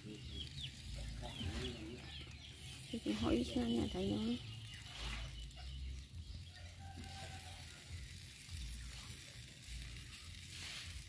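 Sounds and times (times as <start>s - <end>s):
fish sizzling on charcoal grill: 0.0s - 11.0s.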